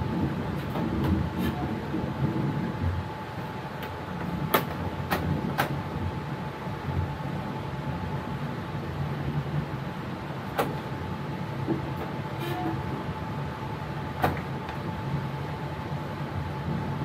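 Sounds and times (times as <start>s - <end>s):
faint steady whine: 0.0s - 17.0s
train cab low hum: 0.0s - 17.0s.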